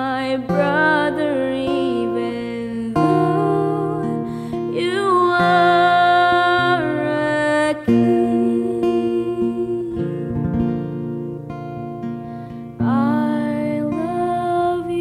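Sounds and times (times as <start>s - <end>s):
woman singing: 0.0s - 11.0s, 12.8s - 15.0s
strummed acoustic guitar: 0.0s - 15.0s.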